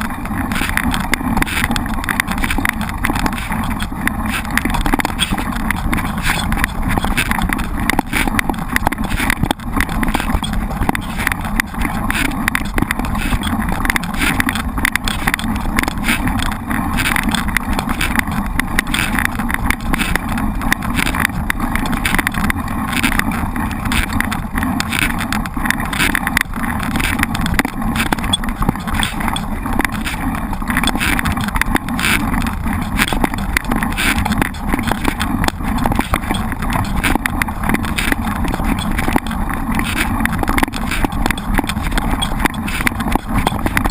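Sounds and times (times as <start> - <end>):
bike tyres on trail: 0.0 - 43.9
fine rattling crackle: 0.0 - 43.9
wind on microphone: 0.0 - 43.9.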